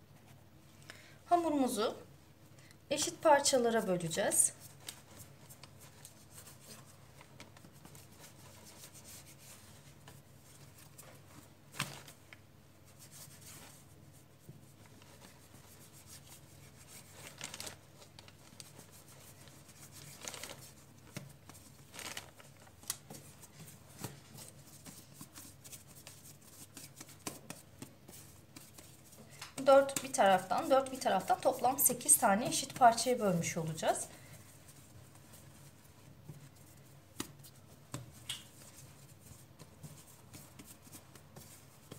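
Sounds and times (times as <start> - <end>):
hands working dough: 2.9 - 41.9.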